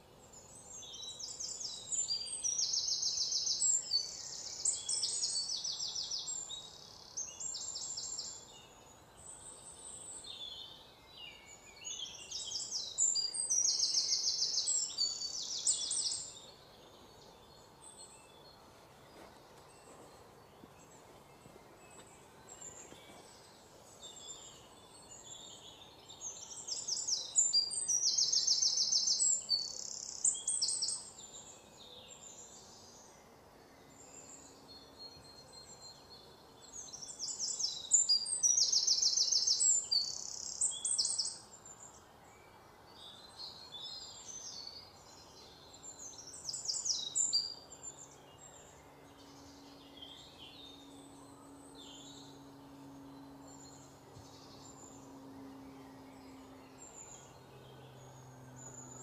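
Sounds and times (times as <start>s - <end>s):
faint background noise: 0.0s - 59.0s
songbirds singing: 0.0s - 59.0s.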